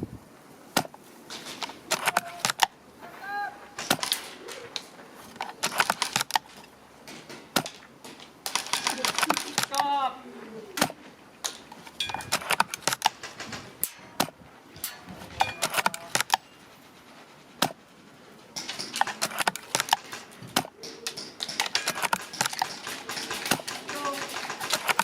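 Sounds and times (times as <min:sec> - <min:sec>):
airsoft guns clicking and firing: 0:00.8 - 0:02.8, 0:03.8 - 0:10.0, 0:10.8 - 0:16.6, 0:18.5 - 0:25.0.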